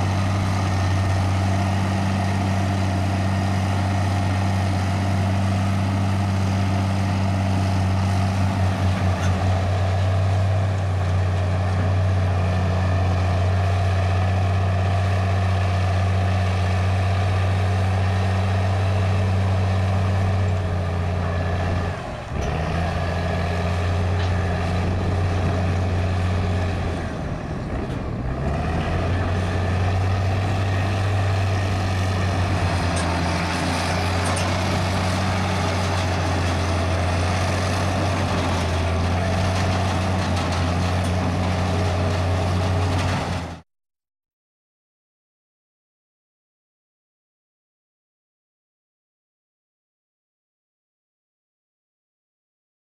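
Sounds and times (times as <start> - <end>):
diesel engine running: 0.0 - 43.6.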